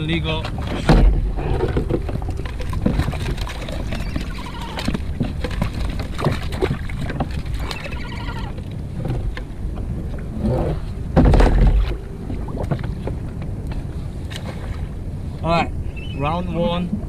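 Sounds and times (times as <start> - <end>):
low rumble of wind and sea: 0.0 - 17.0.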